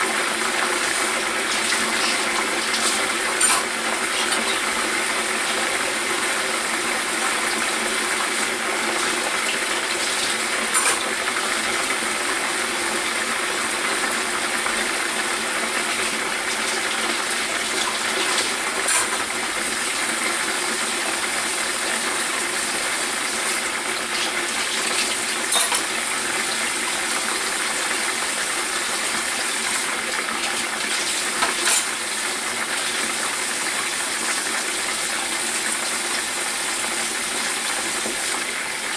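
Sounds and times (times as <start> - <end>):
pork chop sizzling in oil: 0.0 - 38.9.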